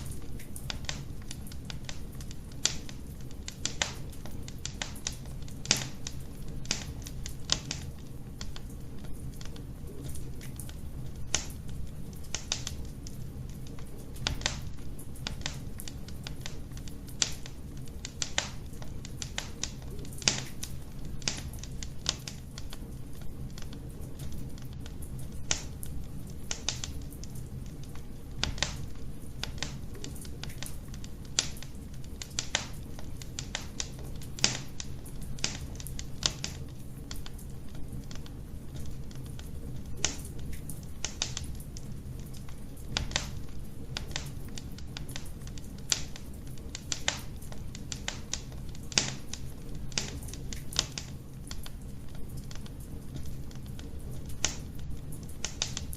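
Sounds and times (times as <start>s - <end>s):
fire crackling and popping: 0.0s - 55.9s
low rumble of flames: 0.0s - 55.9s.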